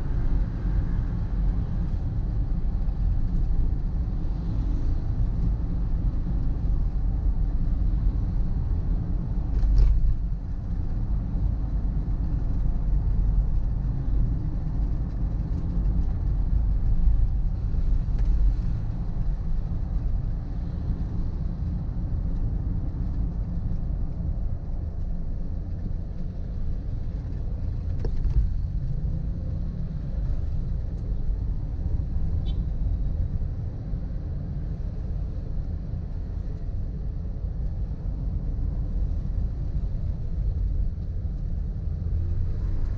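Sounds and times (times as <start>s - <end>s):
road vehicle rumble: 0.0s - 42.9s.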